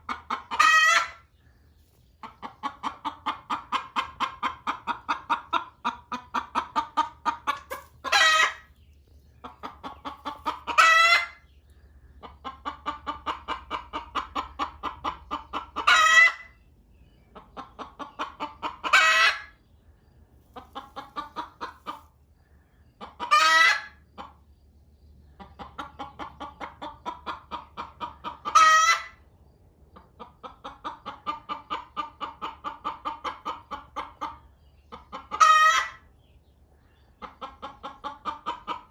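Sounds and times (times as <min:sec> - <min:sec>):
hen cackling: 0:00.0 - 0:01.4, 0:02.2 - 0:08.7, 0:09.4 - 0:11.5, 0:12.2 - 0:16.6, 0:17.4 - 0:19.6, 0:20.6 - 0:22.1, 0:23.0 - 0:24.4, 0:25.4 - 0:29.3, 0:30.0 - 0:36.2, 0:37.2 - 0:38.9.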